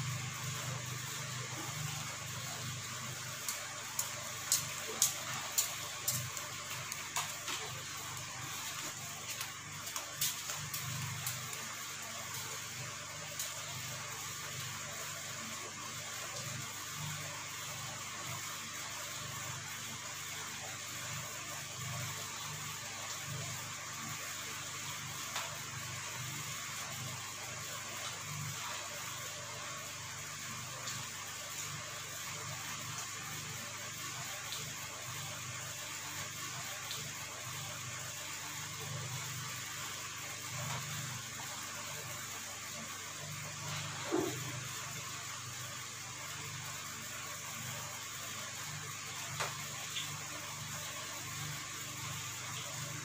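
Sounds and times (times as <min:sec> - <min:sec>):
low hum and hiss: 0:00.0 - 0:53.0.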